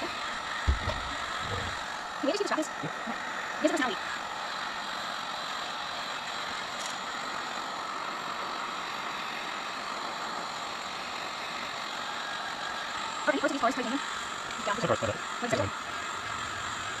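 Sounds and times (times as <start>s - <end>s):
heat gun blower hiss: 0.0s - 17.0s.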